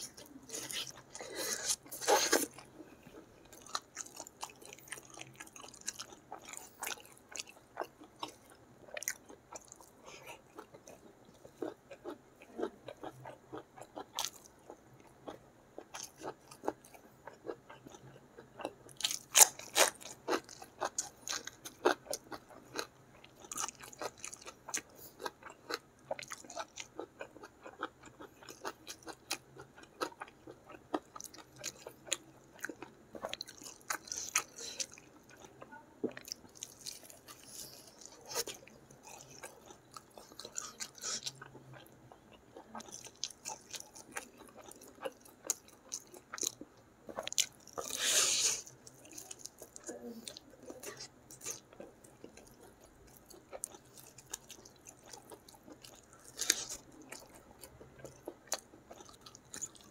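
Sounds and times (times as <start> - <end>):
person chewing with wet smacks: 0.0 - 59.9.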